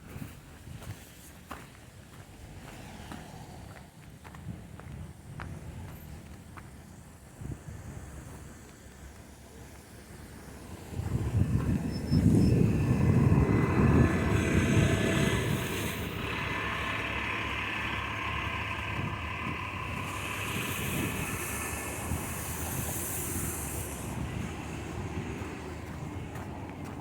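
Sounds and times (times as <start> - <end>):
traffic hiss: 0.1 - 27.0
vehicle passing with low rumble: 2.0 - 27.0.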